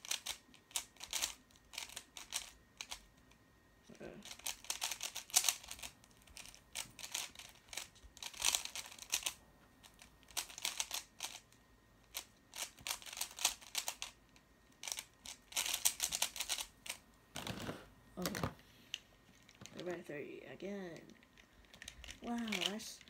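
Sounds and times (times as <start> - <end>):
puzzle cube plastic clicking: 0.0 - 3.4, 4.2 - 17.5, 20.9 - 23.0.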